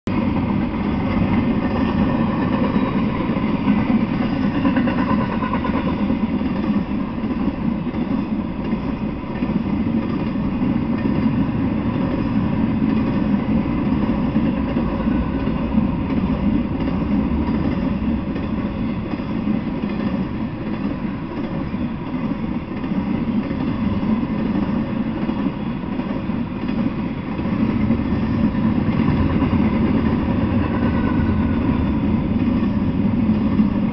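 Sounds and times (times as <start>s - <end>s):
steel wheels running on rails: 0.1s - 33.9s.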